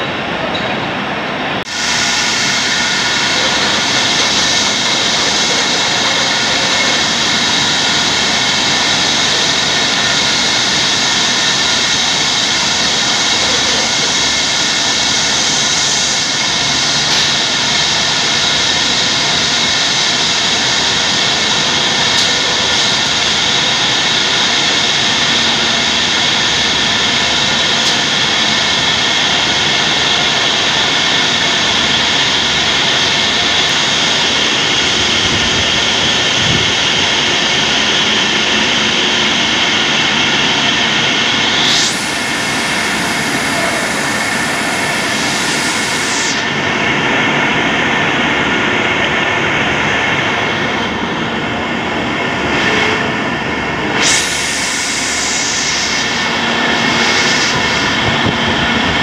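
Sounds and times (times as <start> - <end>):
machinery whining tones: 0.0 - 59.0
factory machinery hiss: 1.5 - 59.0.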